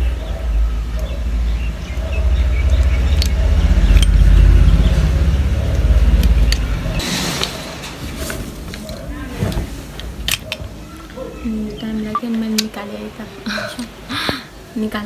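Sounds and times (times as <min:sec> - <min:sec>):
low steady rumble: 0:00.0 - 0:12.2.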